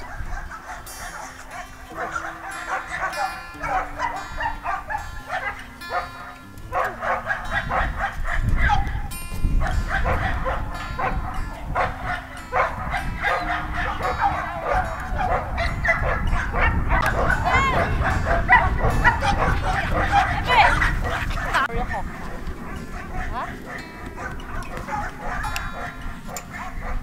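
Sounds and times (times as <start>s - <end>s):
dogs barking and yipping: 0.0s - 27.0s.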